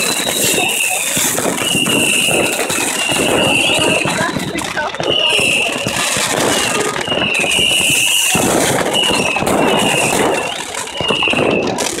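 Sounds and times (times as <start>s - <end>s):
fireworks crackling: 0.0s - 12.0s
shrill whistling fireworks: 0.0s - 12.0s.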